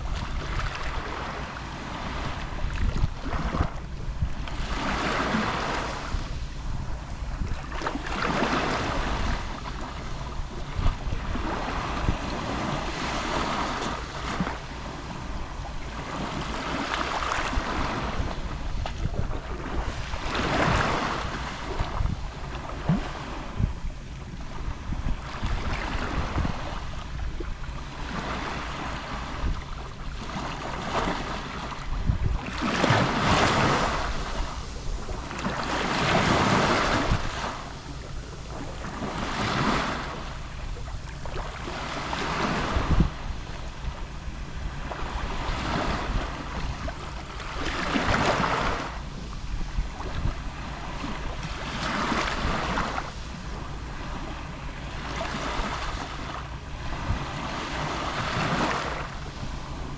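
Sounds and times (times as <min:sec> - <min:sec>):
gentle sea waves lapping: 0:00.0 - 0:59.9
low wind rumble on microphone: 0:00.0 - 0:59.9.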